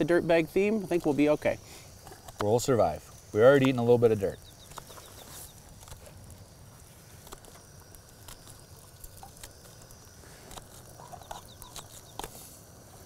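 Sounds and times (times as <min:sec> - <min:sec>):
muffins toasting in a pan: 0:00.0 - 0:13.0.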